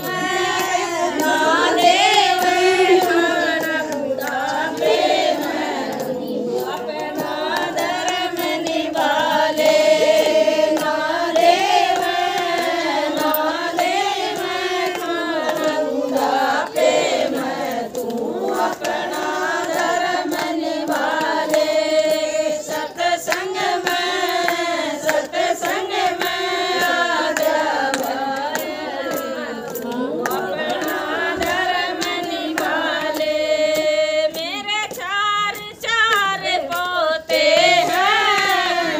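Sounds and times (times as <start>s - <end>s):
hand clapping: 0.0s - 38.9s
women singing in unison: 0.0s - 38.9s.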